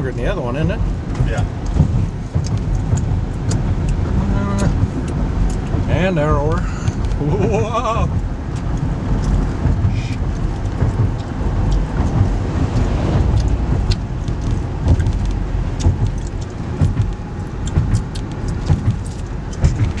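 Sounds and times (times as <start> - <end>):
tyre and wind rumble in car: 0.0 - 20.0.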